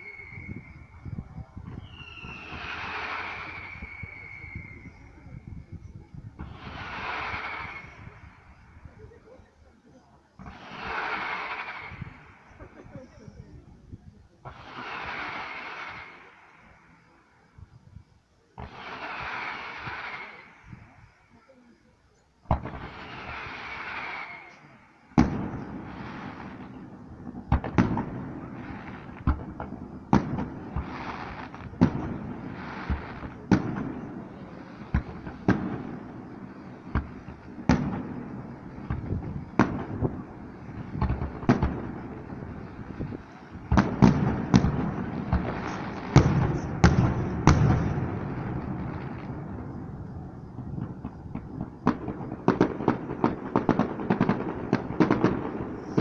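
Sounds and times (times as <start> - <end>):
fireworks bangs with echo: 0.0 - 9.3, 10.4 - 13.7, 14.4 - 17.2, 18.6 - 21.2, 22.4 - 56.0.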